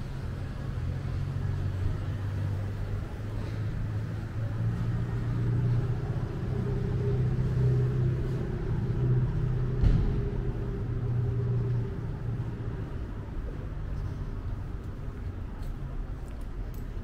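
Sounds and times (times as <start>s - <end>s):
vehicle engine running low: 0.0s - 17.0s.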